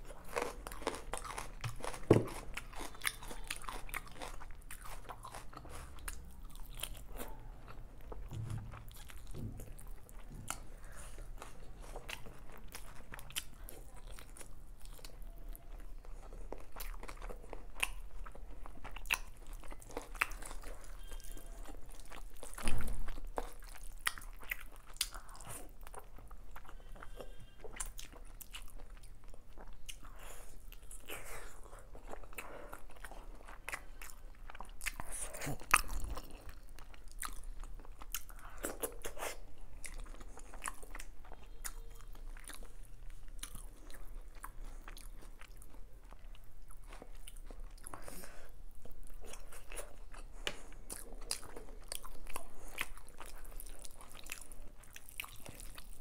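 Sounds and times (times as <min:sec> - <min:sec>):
chewing with wet mouth clicks: 0:00.0 - 0:56.0.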